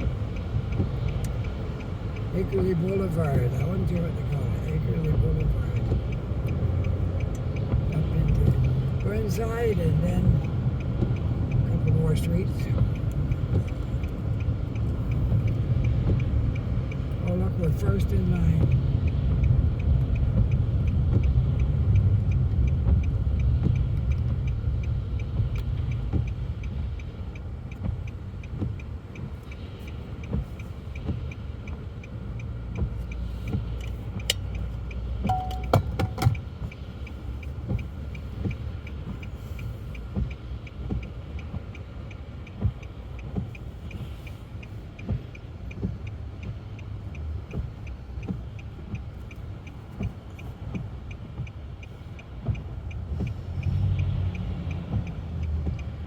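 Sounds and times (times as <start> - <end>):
car engine idling: 0.0 - 19.4, 20.1 - 54.0
turn signal ticking: 0.0 - 56.0.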